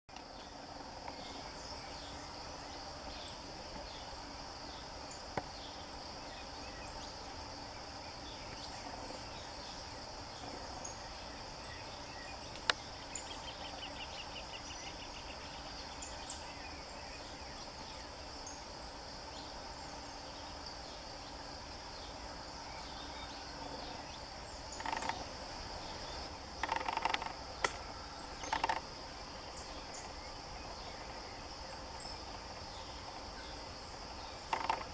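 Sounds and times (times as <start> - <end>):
high-pitched insect drone: 0.4 - 34.9.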